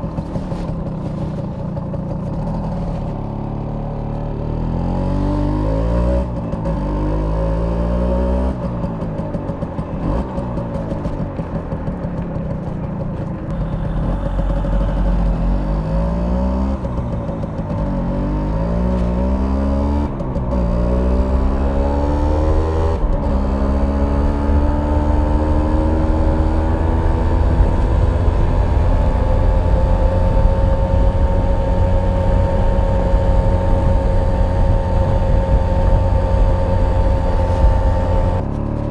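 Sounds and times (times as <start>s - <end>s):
moped engine revving: 0.0s - 38.9s.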